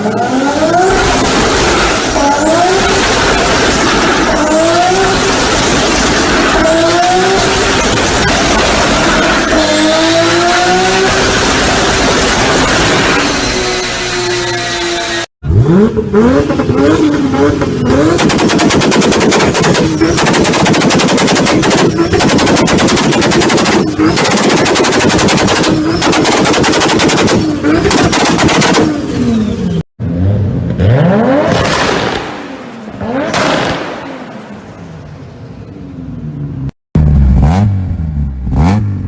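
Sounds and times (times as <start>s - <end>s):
car engine revving: 0.0s - 34.8s, 36.1s - 39.0s.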